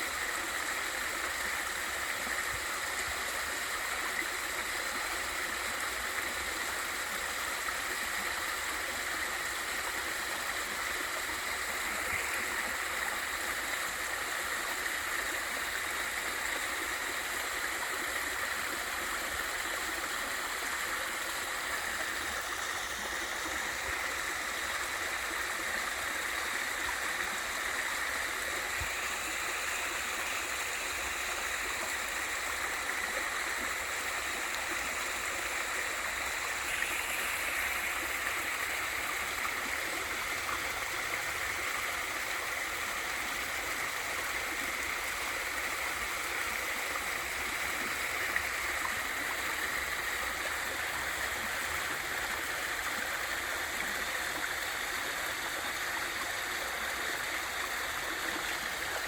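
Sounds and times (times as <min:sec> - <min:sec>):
stream and waterfall rushing: 0:00.0 - 0:59.0.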